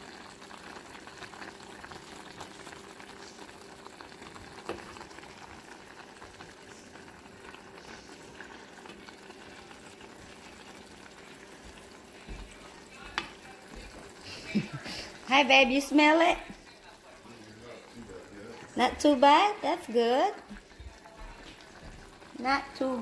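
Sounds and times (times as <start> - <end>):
pot simmering and bubbling: 0.0 - 23.0.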